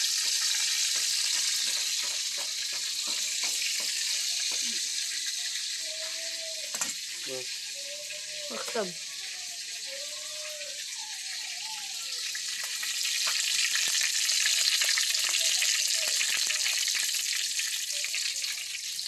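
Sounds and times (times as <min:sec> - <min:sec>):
hot oil sizzling in a wok: 0:00.0 - 0:19.0.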